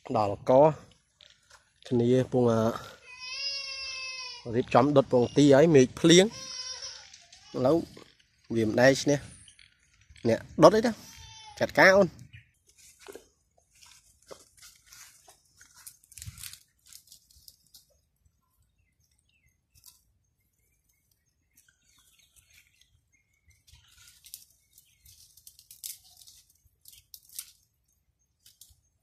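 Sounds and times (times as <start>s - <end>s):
dry twigs rustling and crackling: 0.0s - 29.0s.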